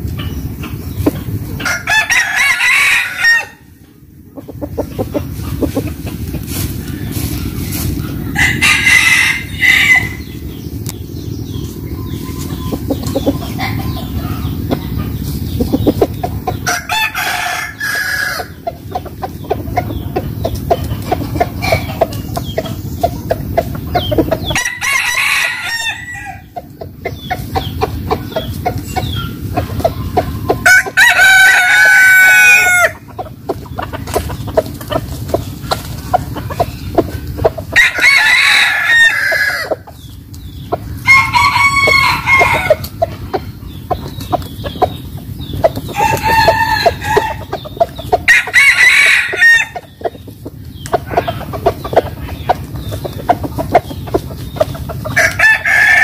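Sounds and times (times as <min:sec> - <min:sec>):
chickens clucking: 0:00.0 - 0:56.0
roosters crowing: 0:00.0 - 0:56.0
steady low rumble: 0:03.6 - 0:24.8, 0:25.7 - 0:31.7, 0:32.6 - 0:38.0, 0:38.6 - 0:48.6, 0:49.2 - 0:55.7.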